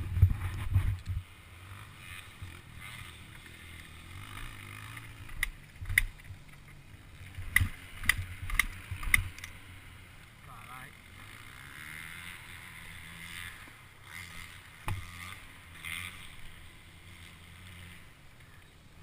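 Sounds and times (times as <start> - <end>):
motocross bike engine: 0.0 - 19.0.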